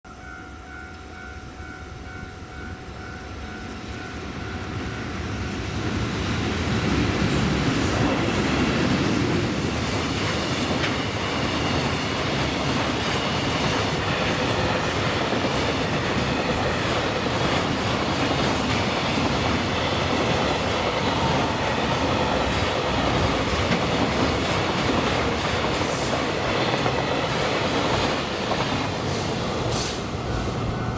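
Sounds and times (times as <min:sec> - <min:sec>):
freight train wheels clattering: 0:05.6 - 0:30.9.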